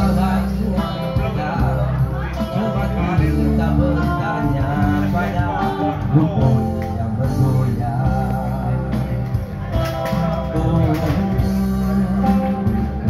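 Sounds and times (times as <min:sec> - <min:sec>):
amplified backing music: 0:00.0 - 0:13.0
man singing into microphone: 0:00.0 - 0:13.0.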